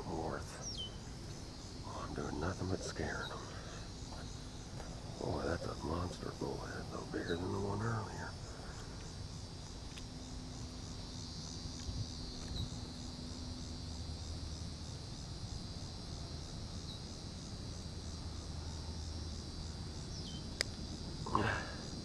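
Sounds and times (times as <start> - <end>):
insect chorus trilling: 0.0 - 22.0.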